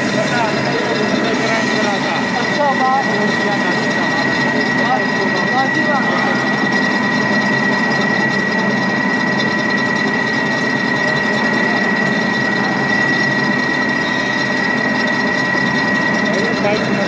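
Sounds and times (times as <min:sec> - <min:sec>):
lathe running with high whine: 0:00.0 - 0:17.0.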